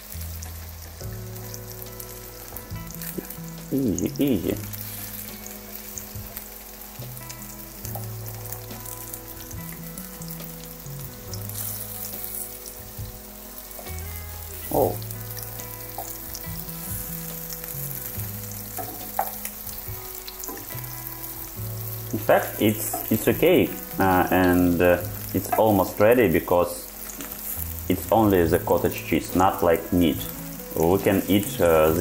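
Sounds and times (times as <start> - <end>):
pancakes sizzling in oil: 0.0 - 32.0.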